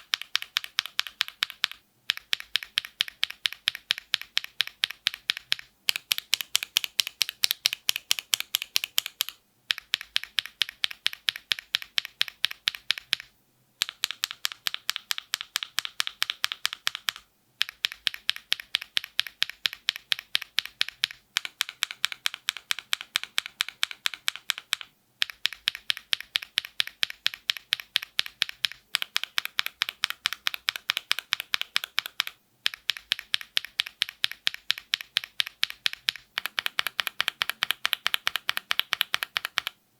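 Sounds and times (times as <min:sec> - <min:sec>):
typing on mechanical keyboard: 0:00.0 - 0:39.8.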